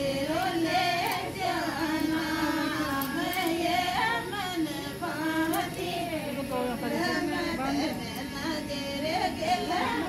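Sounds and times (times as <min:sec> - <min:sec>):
women singing folk song: 0:00.0 - 0:10.0.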